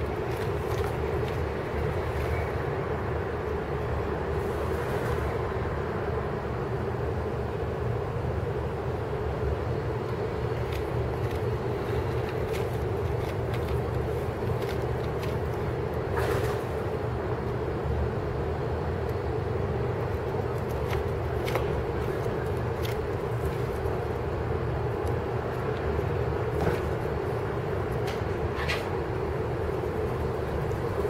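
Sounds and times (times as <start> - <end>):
urban hum and rumble: 0.0 - 31.0.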